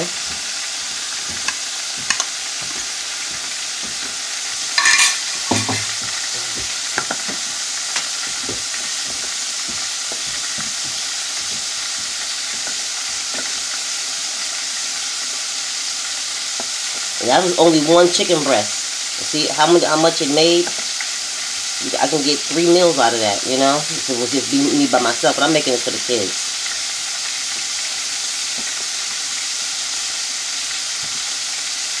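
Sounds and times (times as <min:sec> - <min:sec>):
deep-frying sizzle: 0:00.0 - 0:32.0.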